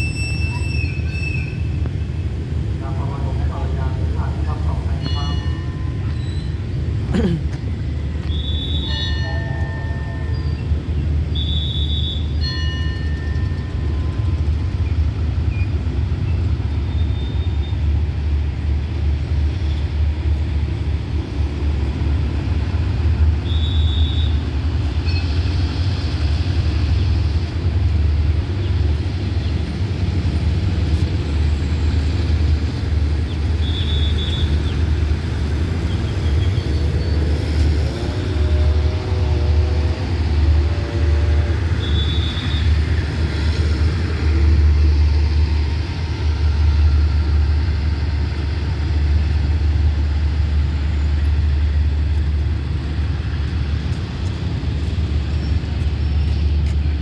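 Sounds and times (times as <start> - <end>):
diesel train rumbling: 0.0 - 57.0.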